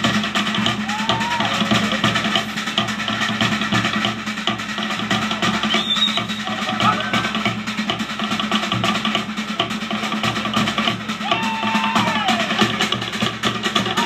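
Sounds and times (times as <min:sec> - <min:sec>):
deep drum pulse: 0:00.0 - 0:14.0
log drums beating: 0:00.0 - 0:14.0.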